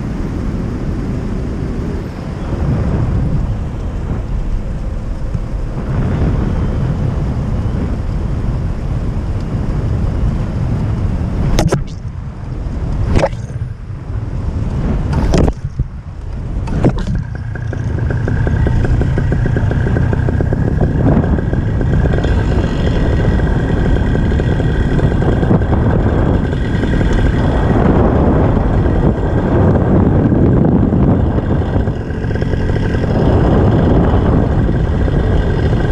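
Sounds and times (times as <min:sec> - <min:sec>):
thin steady whine: 0:00.0 - 0:35.9
wind rushing over microphone: 0:00.0 - 0:35.9.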